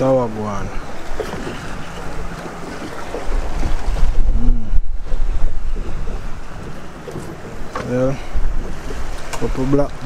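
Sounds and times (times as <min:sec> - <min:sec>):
sea wash: 0:00.0 - 0:10.0
wind buffeting microphone: 0:00.0 - 0:10.0.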